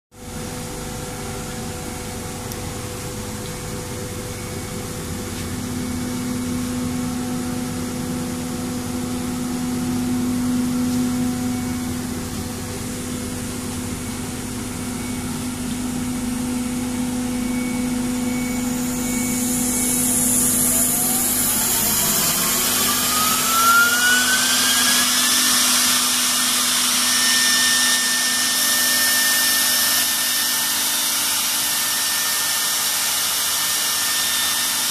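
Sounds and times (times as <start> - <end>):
rising whine: 0.2 - 31.9
cnc router machine humming: 0.2 - 34.9.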